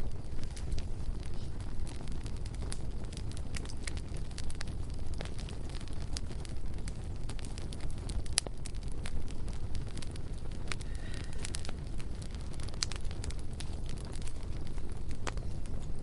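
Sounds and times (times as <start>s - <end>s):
bonfire flames rumbling: 0.0s - 16.0s
burning wood crackling and popping: 0.0s - 16.0s.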